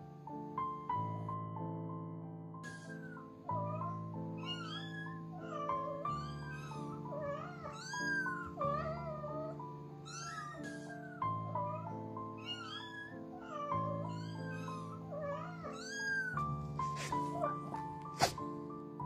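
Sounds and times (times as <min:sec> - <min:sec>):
background music: 0:00.0 - 0:19.0
kittens mewing: 0:02.6 - 0:18.4.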